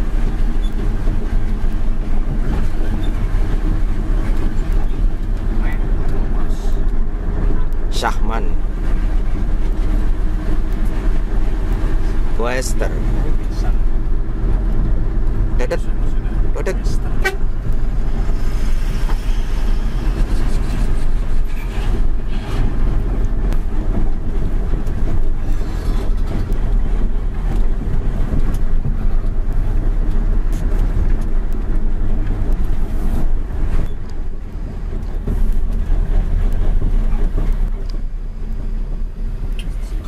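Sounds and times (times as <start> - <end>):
diesel truck engine rumbling: 0.0 - 40.0.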